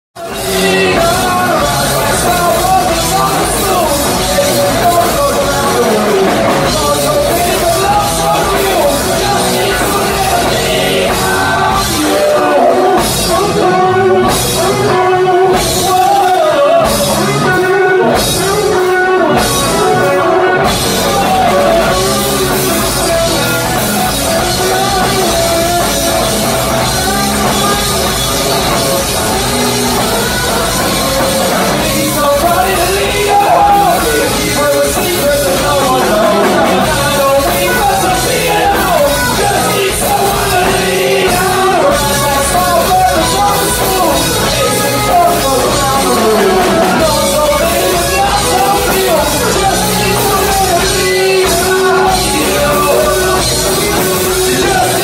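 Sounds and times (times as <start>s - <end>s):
person singing: 0.1s - 55.0s
electric guitar: 0.2s - 55.0s
rock band playing live: 0.2s - 55.0s.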